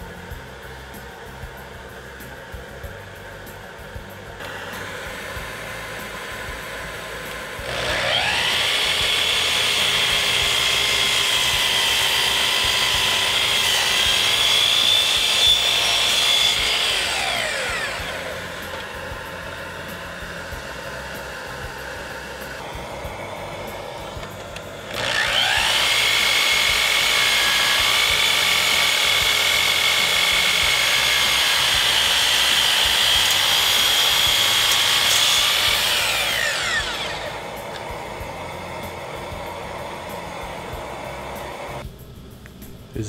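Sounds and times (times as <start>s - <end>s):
miter saw cutting wood: 3.7s - 41.8s.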